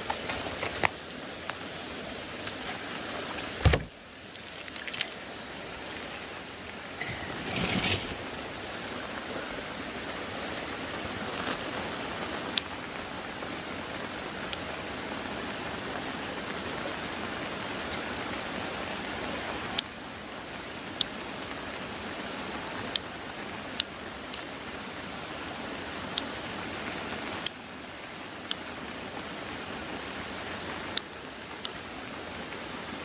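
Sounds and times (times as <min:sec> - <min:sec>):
creek water rushing: 0:00.0 - 0:33.0.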